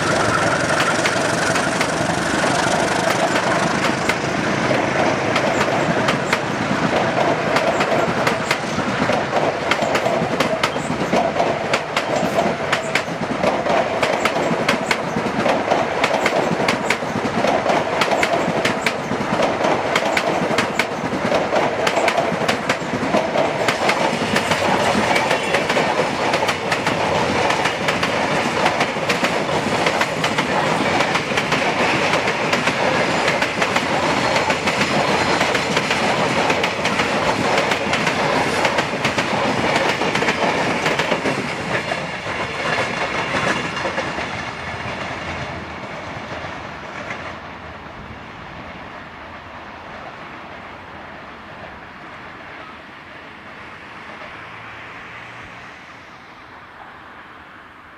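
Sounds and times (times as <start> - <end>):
train wheels clicking on rails: 0.0 - 47.7.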